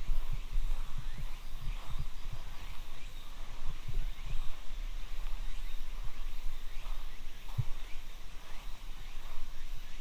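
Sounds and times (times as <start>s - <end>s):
soft low thumps: 0.0s - 9.6s.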